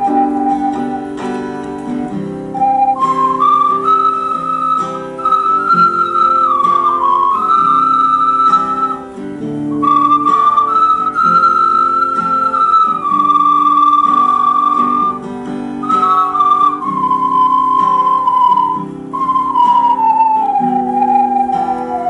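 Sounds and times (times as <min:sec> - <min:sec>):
ocarina slow melody: 0:00.0 - 0:22.0.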